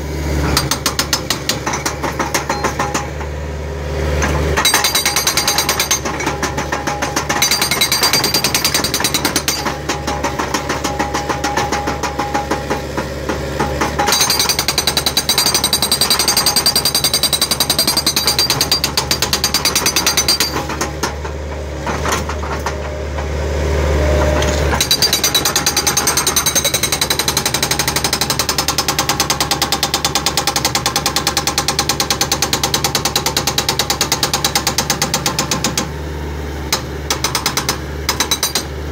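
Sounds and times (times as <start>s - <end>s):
loader engine running: 0.0s - 38.9s
hydraulic breaker hammering concrete: 0.4s - 3.4s, 4.2s - 23.3s, 24.1s - 38.9s.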